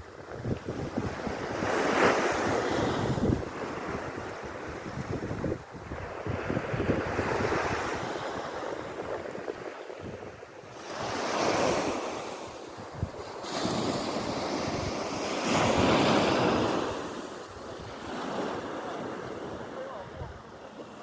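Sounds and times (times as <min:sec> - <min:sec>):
wind buffeting microphone: 0:00.0 - 0:12.0, 0:12.6 - 0:20.6
sea waves washing onto shore: 0:00.0 - 0:21.0.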